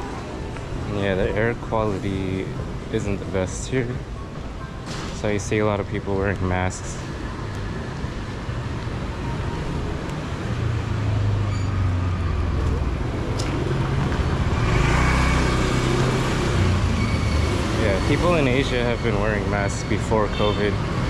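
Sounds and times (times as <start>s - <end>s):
street traffic passing: 0.0s - 21.0s.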